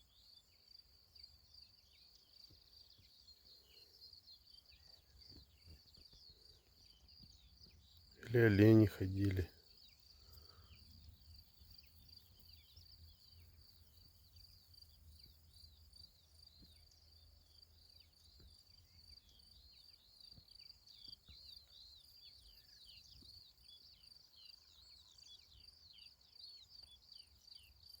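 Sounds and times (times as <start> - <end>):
birds chirping: 1.8 - 26.1.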